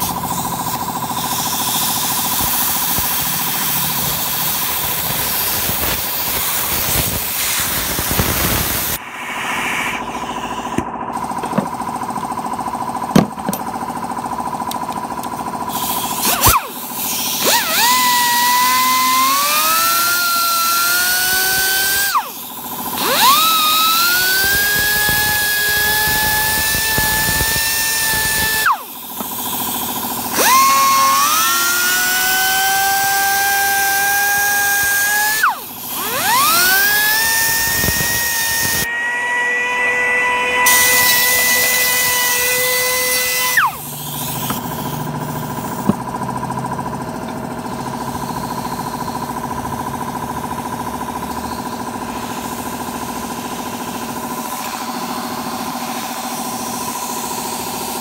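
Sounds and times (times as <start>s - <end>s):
electric rotary tool whining: 0.0s - 12.4s, 14.9s - 46.3s, 50.6s - 58.0s.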